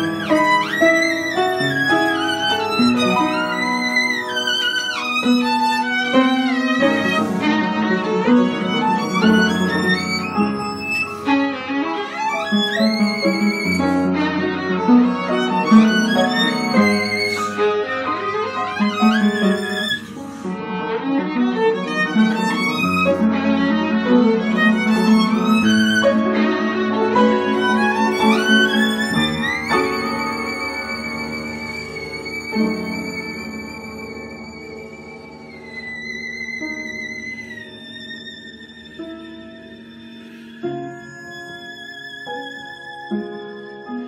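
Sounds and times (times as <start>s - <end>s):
piano accompaniment: 0.0s - 44.0s
violin melody with vibrato: 0.0s - 44.0s.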